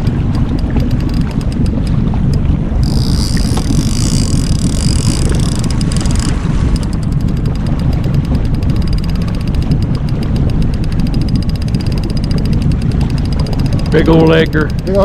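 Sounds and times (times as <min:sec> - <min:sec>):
boat running on water: 0:00.0 - 0:15.0
fast light ticks: 0:00.0 - 0:15.0
wind on microphone: 0:00.0 - 0:15.0.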